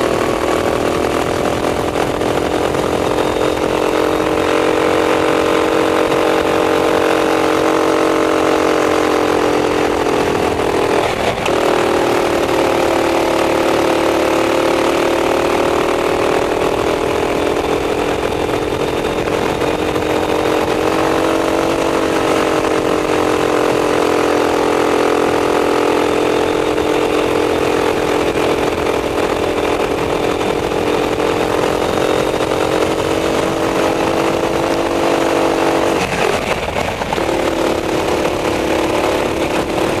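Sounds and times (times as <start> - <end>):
kart engine running hard: 0.0 - 40.0.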